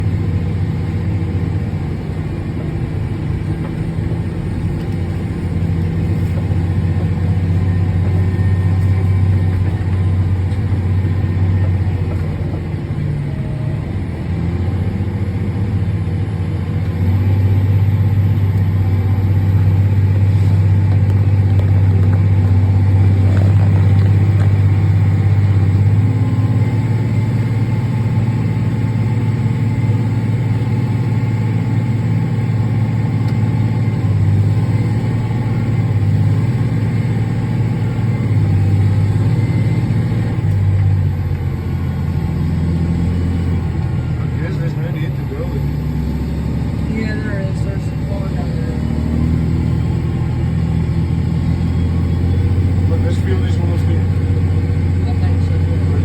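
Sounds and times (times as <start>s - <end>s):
heavy machinery engine droning: 0.0s - 56.0s.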